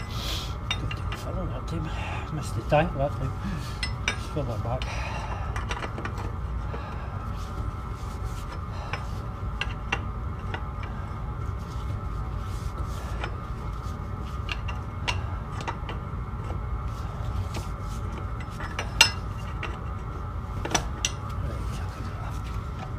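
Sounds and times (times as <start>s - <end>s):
machine humming with whine: 0.0s - 22.9s.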